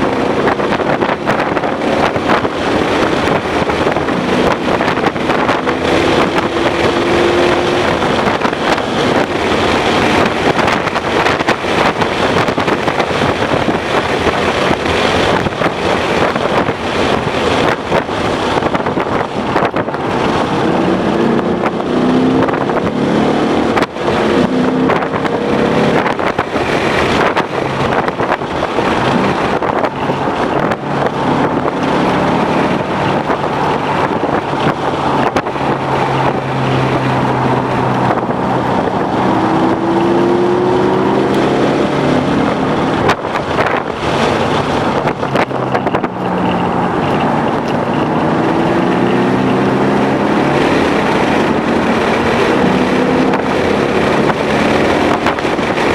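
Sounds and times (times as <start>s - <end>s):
car engine revving: 0.0s - 55.9s
wind and road rush: 0.0s - 55.9s.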